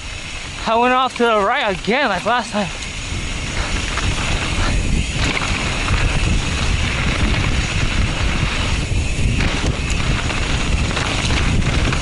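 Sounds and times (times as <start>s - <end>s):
bike tyres on muddy trail: 0.0s - 12.0s
wind rumbling on microphone: 0.0s - 12.0s.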